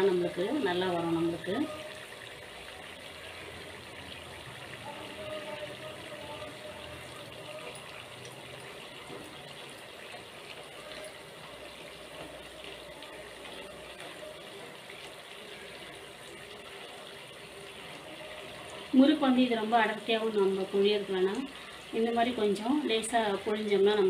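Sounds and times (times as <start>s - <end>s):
dough sizzling in hot oil: 0.0s - 24.0s.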